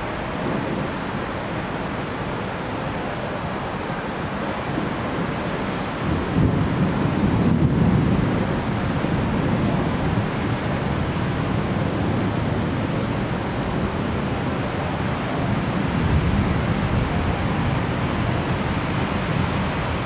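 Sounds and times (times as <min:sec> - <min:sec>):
storm rumble: 0:00.0 - 0:20.0.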